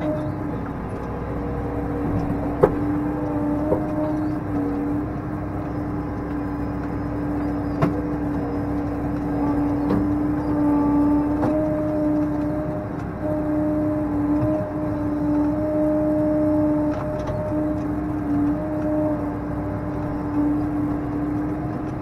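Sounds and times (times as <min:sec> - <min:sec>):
tractor engine humming: 0:00.0 - 0:22.0.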